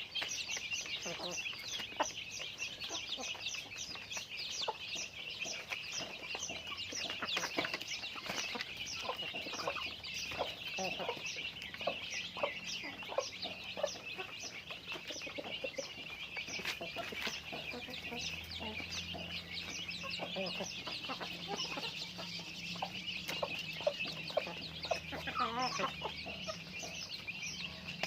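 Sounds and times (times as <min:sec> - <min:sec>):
chickens clucking: 0:00.0 - 0:28.0
high-pitched chirping calls: 0:00.0 - 0:28.0.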